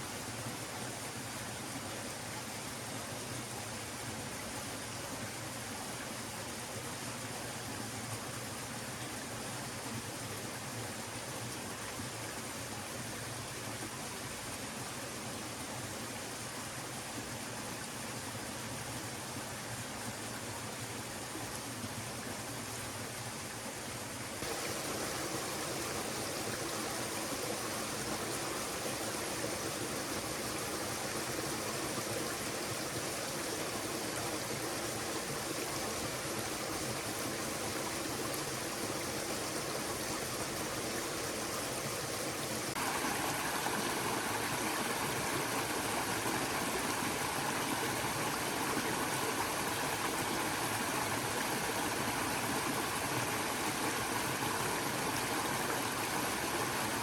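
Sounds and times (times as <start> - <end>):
stream rushing and trickling: 0.0 - 57.0.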